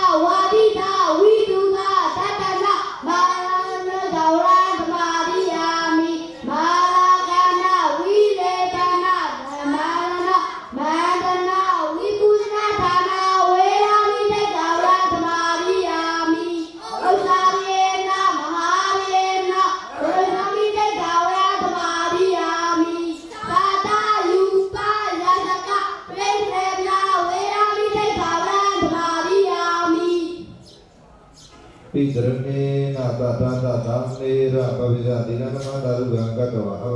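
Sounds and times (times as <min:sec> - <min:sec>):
boy chanting into a microphone: 0:00.0 - 0:30.8, 0:31.9 - 0:36.9.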